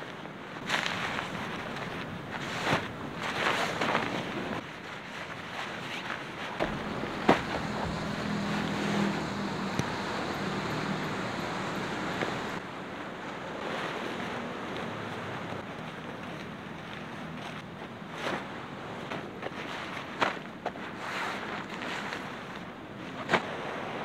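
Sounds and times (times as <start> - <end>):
nylon tent fabric rustling: 0.0 - 24.0
surf: 0.0 - 24.0
wind: 0.0 - 24.0.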